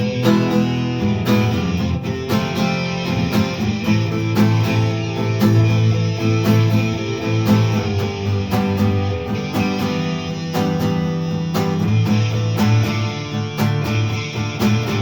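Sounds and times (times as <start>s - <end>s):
guitar strumming chords: 0.0s - 15.0s.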